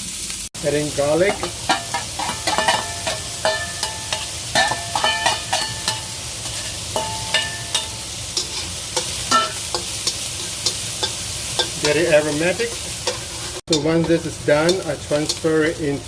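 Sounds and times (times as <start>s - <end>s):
onions sizzling in a wok: 0.0s - 16.0s
spatula scraping a pan: 1.0s - 15.8s.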